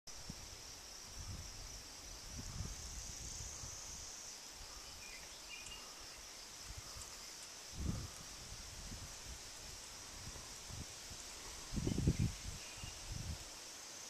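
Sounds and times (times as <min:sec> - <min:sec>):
wind rumble on microphone: 0:00.1 - 0:05.1, 0:05.7 - 0:13.5
high insect drone: 0:00.1 - 0:14.0.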